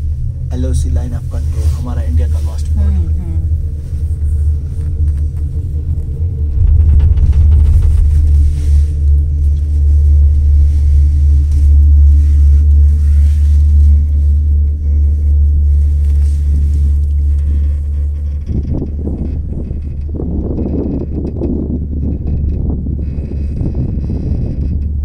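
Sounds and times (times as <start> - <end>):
gondola cabin rumble and hum: 0.0 - 25.0
rough fluttering rush: 0.7 - 24.8.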